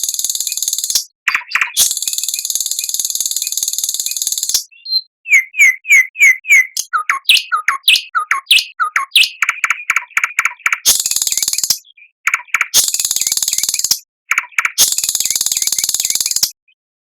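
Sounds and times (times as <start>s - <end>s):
songbird singing: 0.2s - 16.8s.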